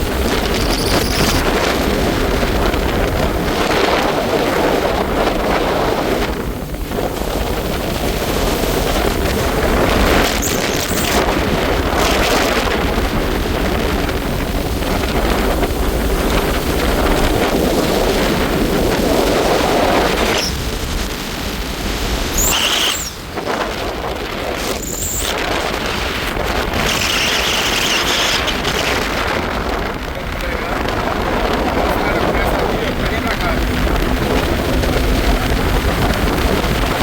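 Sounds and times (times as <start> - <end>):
jet ski motor: 0.0 - 37.0
rushing water: 0.0 - 37.0
wind buffeting microphone: 0.0 - 37.0.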